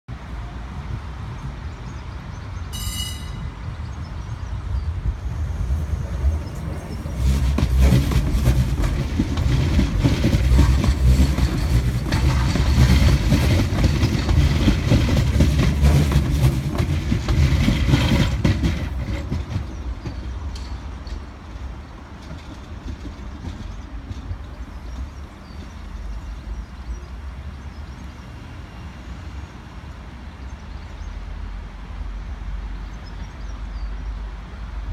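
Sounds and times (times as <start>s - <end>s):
tram wheels rumbling on rails: 0.1s - 34.9s.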